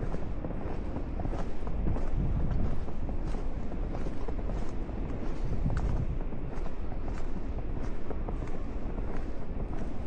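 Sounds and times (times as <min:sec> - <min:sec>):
footsteps crunching through snow: 0:00.0 - 0:10.0
wind buffeting microphone: 0:00.0 - 0:10.0.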